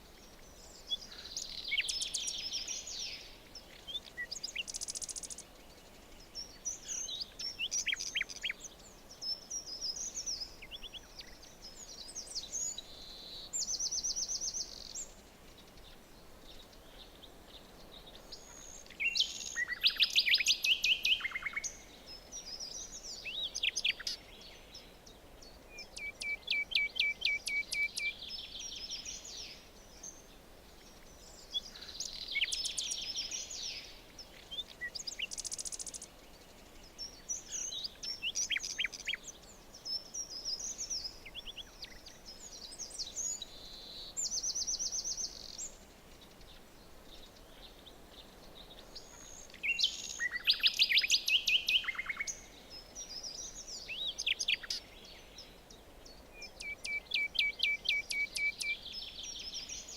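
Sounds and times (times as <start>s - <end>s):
faint steady hiss: 0.0s - 59.9s
songbirds chirping and trilling: 0.0s - 59.9s.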